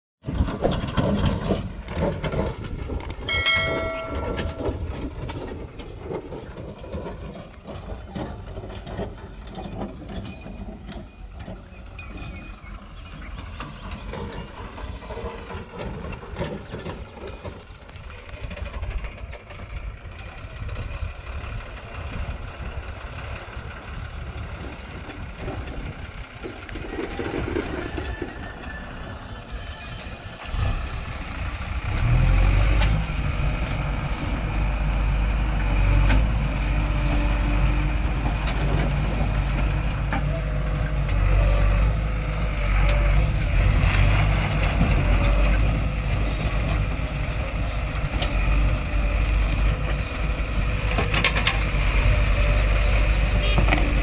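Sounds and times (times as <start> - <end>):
heavy diesel engines rumbling: 0.2 - 54.0.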